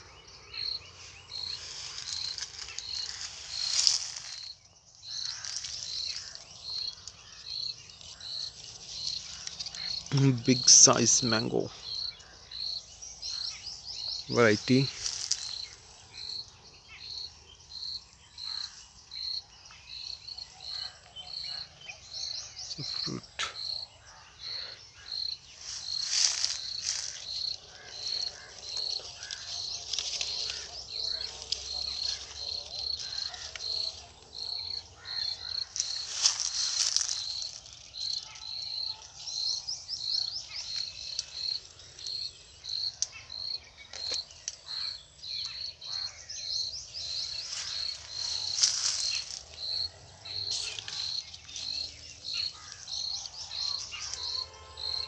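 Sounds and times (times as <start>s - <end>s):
leaves rustling: 0.0s - 17.2s, 24.4s - 55.0s
cricket chirping: 0.0s - 55.0s.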